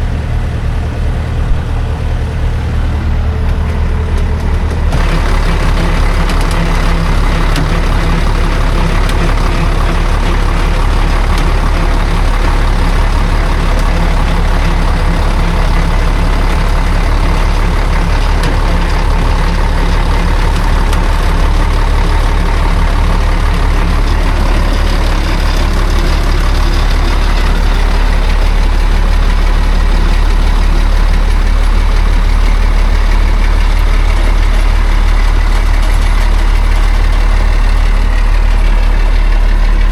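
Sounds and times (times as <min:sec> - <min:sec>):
heavy truck engine running: 0:00.0 - 0:39.9.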